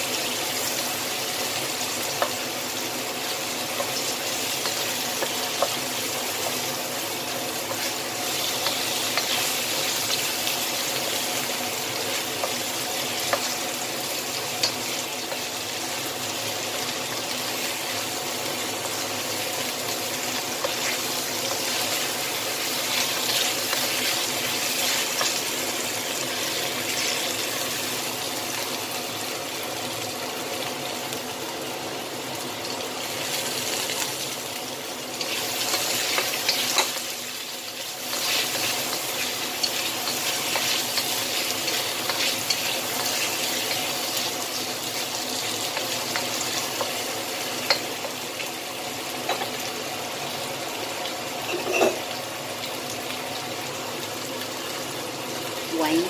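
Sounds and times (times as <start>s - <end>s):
chicken wings sizzling in oil: 0.0s - 56.0s.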